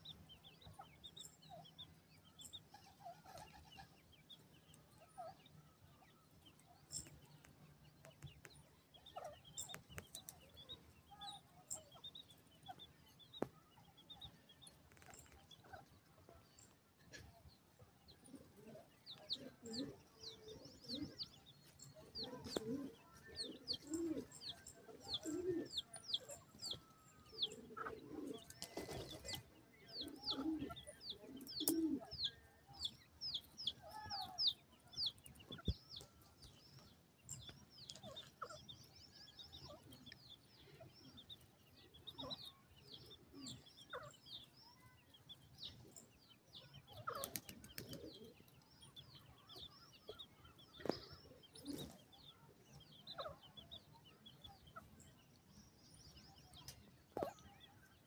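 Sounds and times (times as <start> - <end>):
chicks peeping: 0.0 - 58.0.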